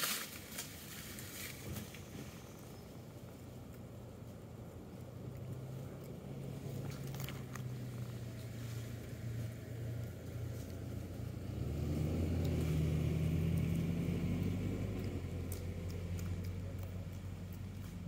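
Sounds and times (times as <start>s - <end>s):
vehicle engine hum: 0.1s - 18.0s.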